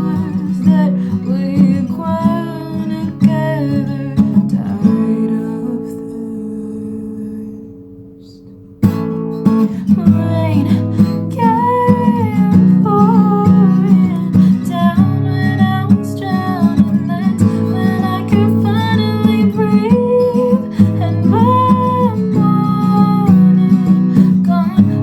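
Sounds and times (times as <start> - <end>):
acoustic guitar strummed: 0.0 - 25.0.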